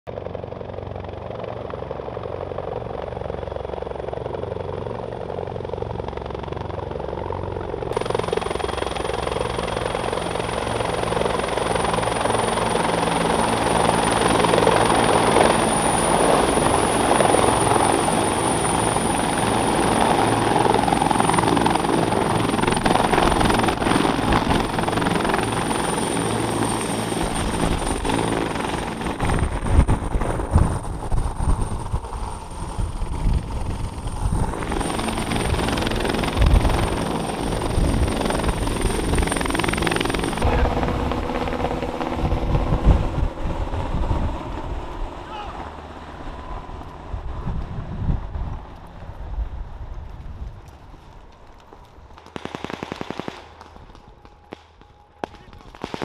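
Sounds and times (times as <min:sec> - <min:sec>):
helicopter rotors beating: 0:00.1 - 0:56.0.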